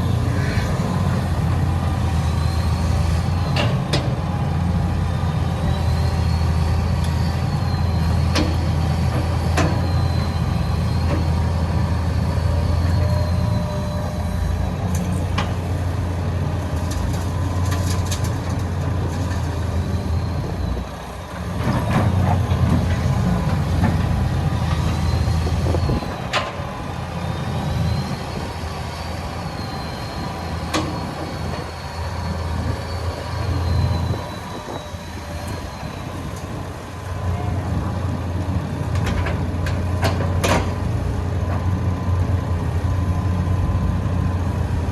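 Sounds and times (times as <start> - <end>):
excavator diesel engine under load: 0.0 - 44.9.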